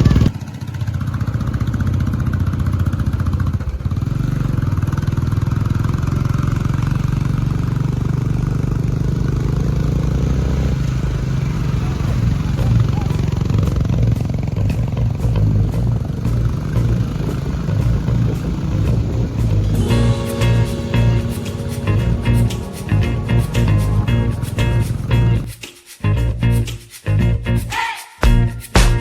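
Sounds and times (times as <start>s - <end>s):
motorcycle engine running: 0.0s - 19.8s, 22.0s - 25.5s.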